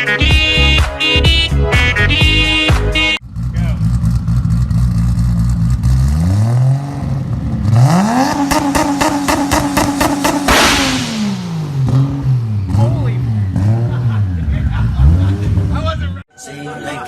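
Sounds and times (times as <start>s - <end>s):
vehicle engine idling and revving: 1.3s - 16.2s.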